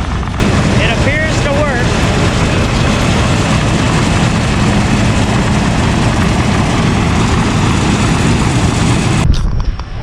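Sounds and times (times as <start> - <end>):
heavy machine engine rumbling: 0.3 - 9.2.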